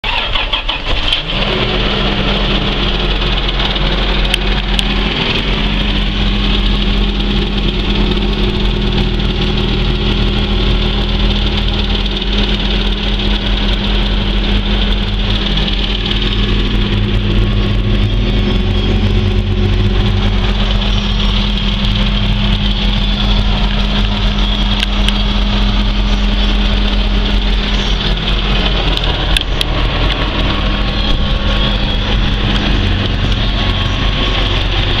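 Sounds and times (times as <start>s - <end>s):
diesel tractor engine idling: 0.0s - 35.0s.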